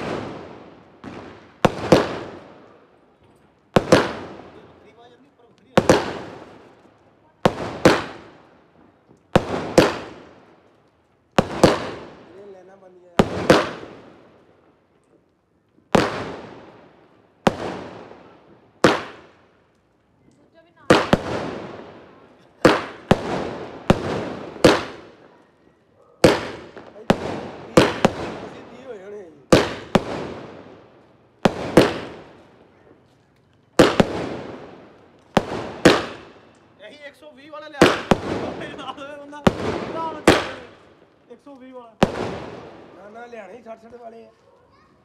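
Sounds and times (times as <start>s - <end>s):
firework bangs: 0.0s - 45.0s.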